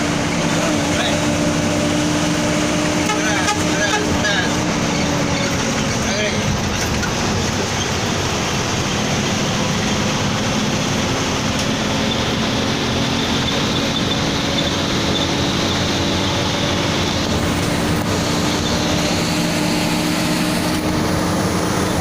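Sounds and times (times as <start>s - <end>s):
bus engine drone: 0.0s - 22.0s
road and tyre noise: 0.0s - 22.0s.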